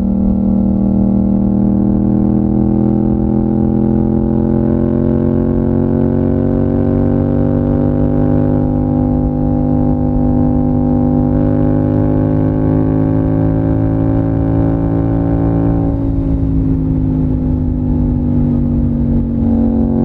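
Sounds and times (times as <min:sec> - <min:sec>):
motorcycle engine revving up: 0:00.0 - 0:20.0.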